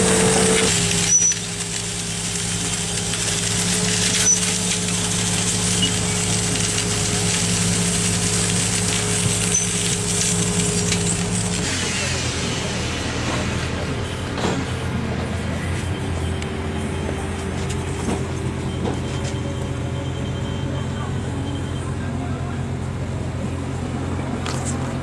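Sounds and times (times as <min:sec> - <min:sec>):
construction machine engine humming: 0:00.0 - 0:25.0.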